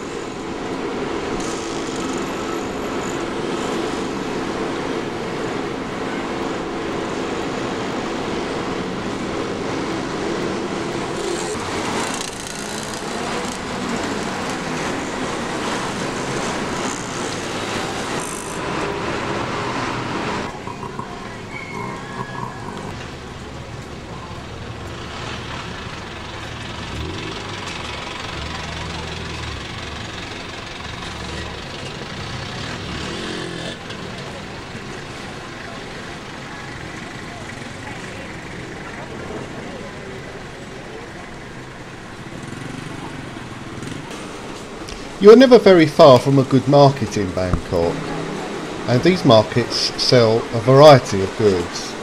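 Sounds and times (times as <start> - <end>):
heavy road traffic: 0.0 - 52.0.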